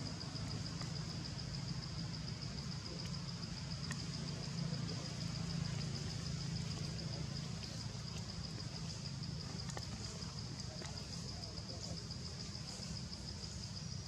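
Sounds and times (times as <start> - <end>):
low engine hum: 0.0 - 13.7
insect drone: 0.0 - 14.0.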